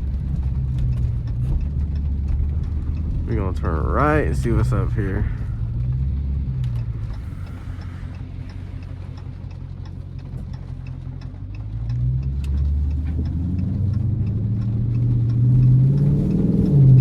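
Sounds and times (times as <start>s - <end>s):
engine running inside car cabin: 0.0s - 17.0s
turn signal ticking: 0.0s - 17.0s.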